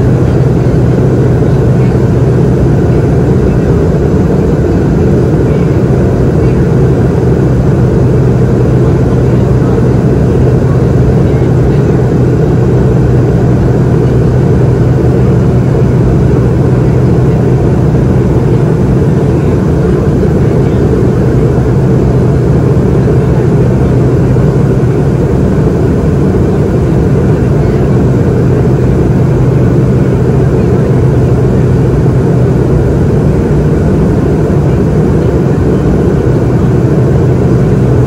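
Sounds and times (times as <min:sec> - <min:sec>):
airflow rush: 0:00.0 - 0:38.0
jet engine hum: 0:00.0 - 0:38.0.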